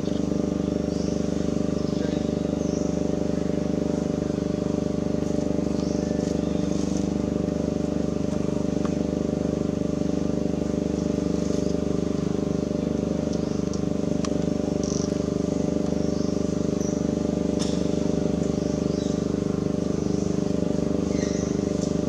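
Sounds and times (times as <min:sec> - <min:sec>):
small engine droning: 0:00.0 - 0:22.0.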